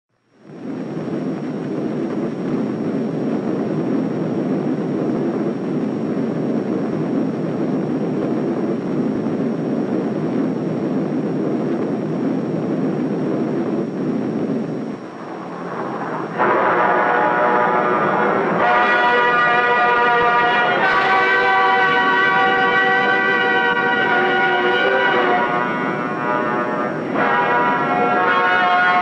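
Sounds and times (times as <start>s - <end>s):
propeller aircraft engines droning: 0.4s - 28.8s.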